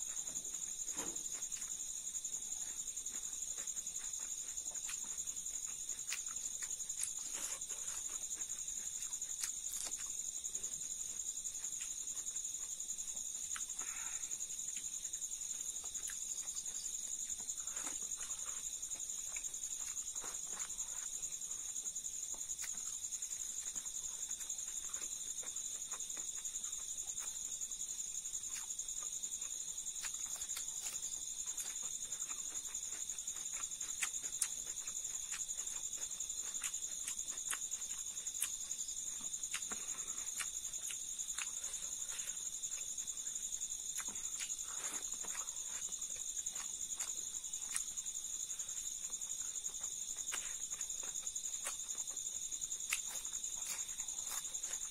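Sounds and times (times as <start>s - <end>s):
chewing and eating by hand: 0.0s - 54.9s.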